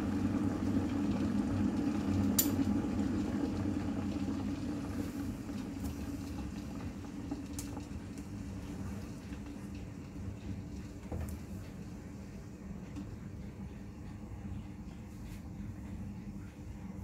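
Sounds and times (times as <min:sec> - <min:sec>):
electric kettle rumbling: 0:00.0 - 0:17.0.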